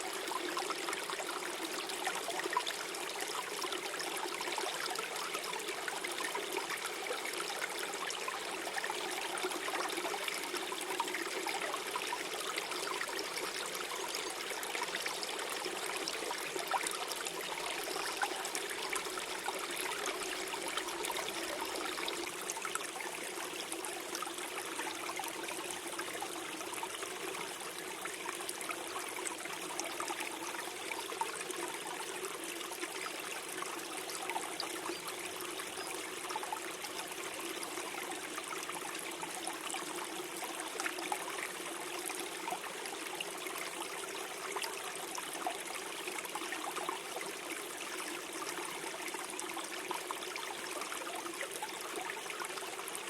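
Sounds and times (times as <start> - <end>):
stream gurgling over stones: 0.0 - 53.0.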